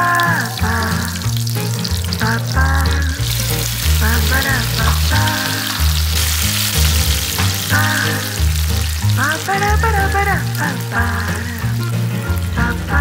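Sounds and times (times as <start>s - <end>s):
vegetables sizzling in hot oil: 0.0s - 12.8s
background music with bass: 0.0s - 13.0s.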